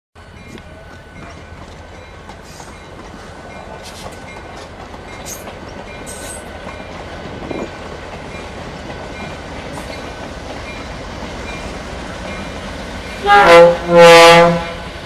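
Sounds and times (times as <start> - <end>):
diesel locomotive engine rumbling: 0.2 - 15.0
high squeaks from train: 0.3 - 13.6.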